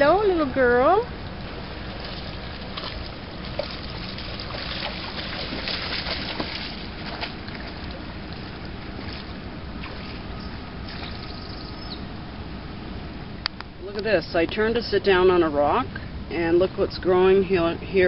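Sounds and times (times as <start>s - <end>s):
water: 0.0s - 18.0s
wind: 0.0s - 18.0s.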